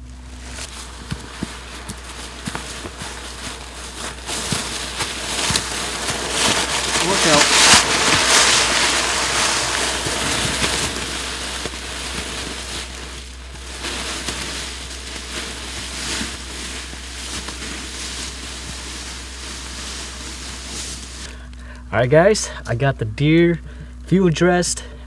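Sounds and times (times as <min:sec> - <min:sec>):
carcass dragged through dry leaves: 0:00.0 - 0:21.4
footsteps in leaves: 0:00.0 - 0:21.4.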